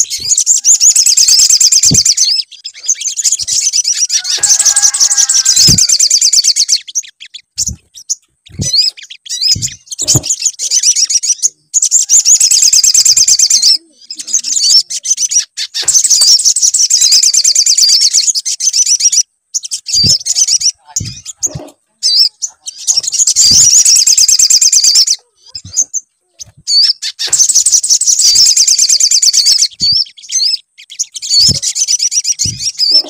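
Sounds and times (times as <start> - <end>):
bird high-pitched trilling: 0.0 - 33.0
short bird calls: 0.0 - 33.0.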